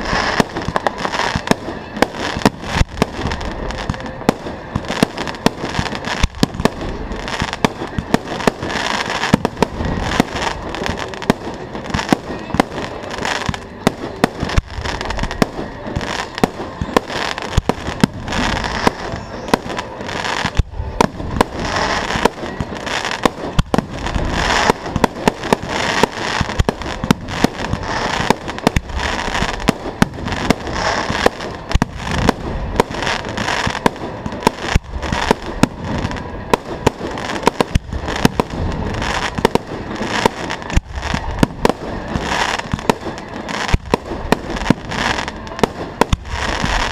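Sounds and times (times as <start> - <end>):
fireworks bangs: 0.0 - 46.9
fireworks crackle: 0.0 - 46.9.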